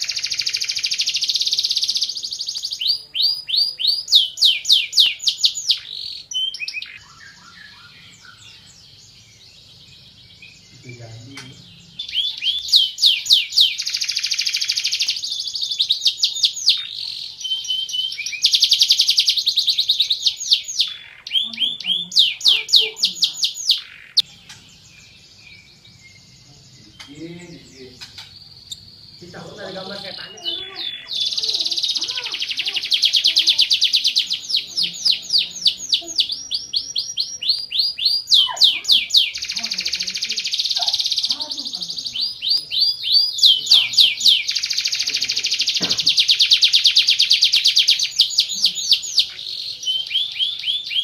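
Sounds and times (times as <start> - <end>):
canary singing whistled notes: 0.0 - 8.7, 10.4 - 24.6, 28.1 - 51.0.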